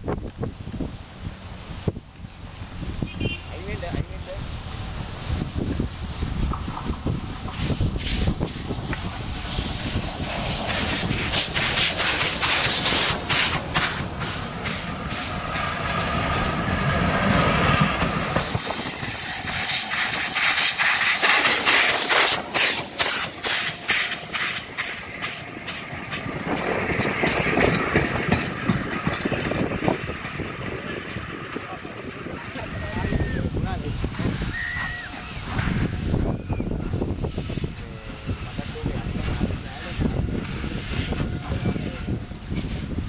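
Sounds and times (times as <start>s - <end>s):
locomotive deep rumble: 0.0s - 43.0s
hissing steam: 1.4s - 43.0s
train wheels clicking on rails: 4.5s - 36.4s, 37.0s - 43.0s.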